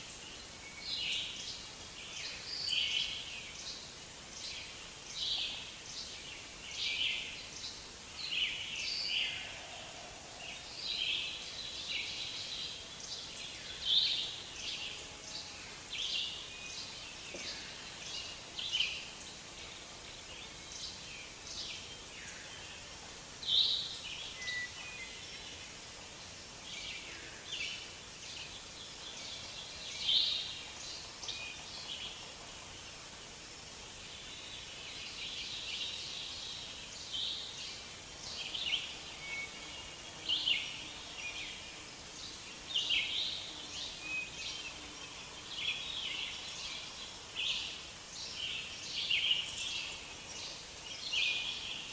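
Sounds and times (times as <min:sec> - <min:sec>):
steady hiss: 0:00.0 - 0:51.9.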